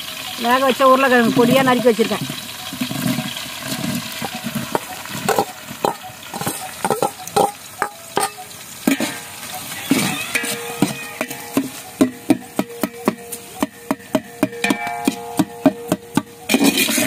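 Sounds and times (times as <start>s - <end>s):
oil sizzling: 0.0s - 17.0s
metal spoon scraping a pan: 1.2s - 17.0s.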